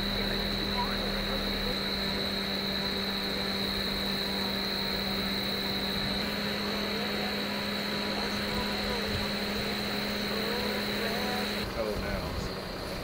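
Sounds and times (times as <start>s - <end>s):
constant high-pitched tone: 0.0s - 13.0s
machine hum: 0.0s - 13.0s.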